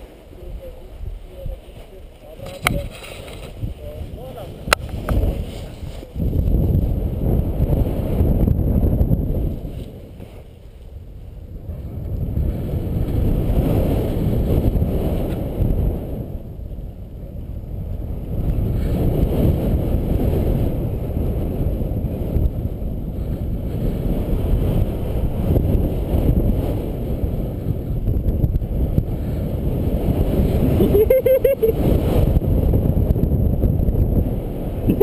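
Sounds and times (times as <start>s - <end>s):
gusty wind noise on microphone: 0.0s - 35.0s.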